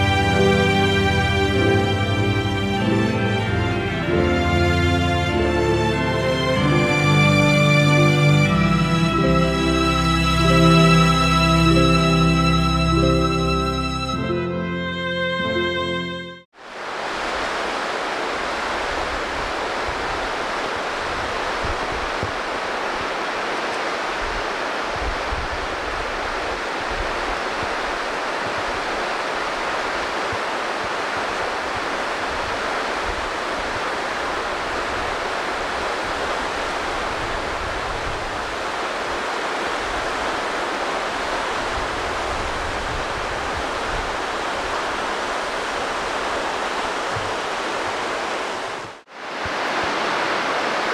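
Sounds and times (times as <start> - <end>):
rushing stream water: 0.0 - 50.9.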